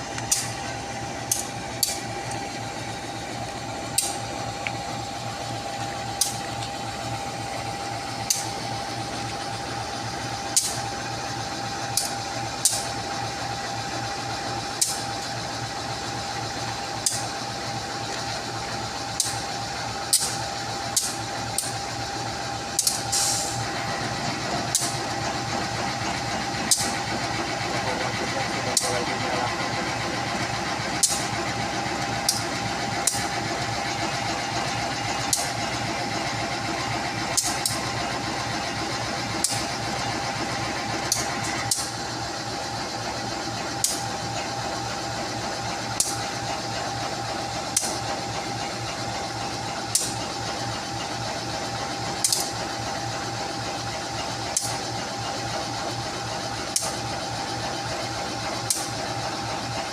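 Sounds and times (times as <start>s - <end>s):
diesel locomotive engine idling: 0.0s - 59.9s.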